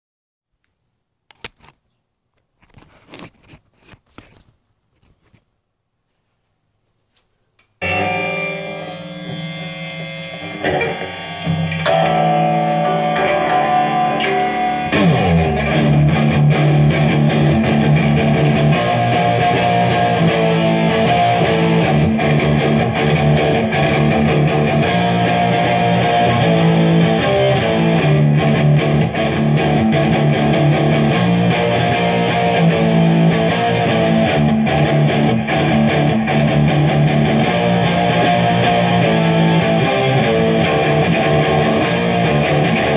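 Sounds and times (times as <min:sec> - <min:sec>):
electric guitar playing: 0:07.8 - 0:42.9.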